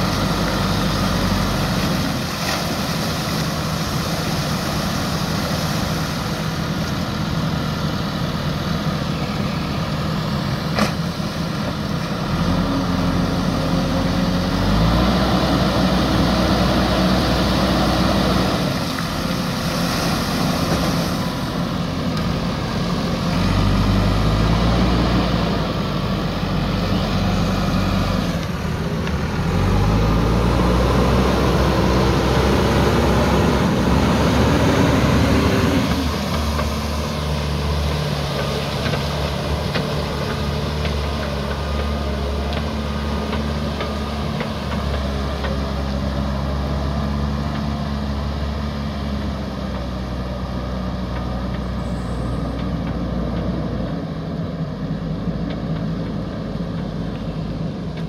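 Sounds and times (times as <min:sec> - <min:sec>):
backhoe diesel engine revving: 0:00.0 - 0:58.0.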